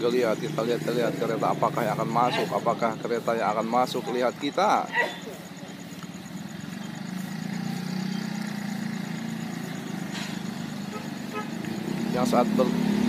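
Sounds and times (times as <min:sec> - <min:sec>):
motorcycle engines passing: 0:00.0 - 0:13.0.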